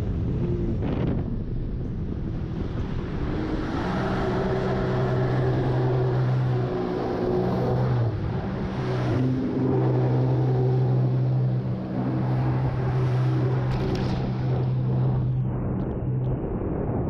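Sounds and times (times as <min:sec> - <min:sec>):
jet ski engine running: 0:00.0 - 0:16.7.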